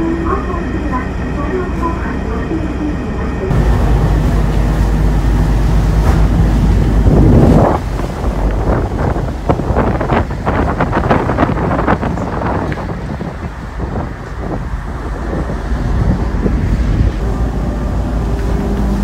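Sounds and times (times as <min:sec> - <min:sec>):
low steady rumble: 0:00.0 - 0:19.0
wind buffeting microphone: 0:03.5 - 0:19.0.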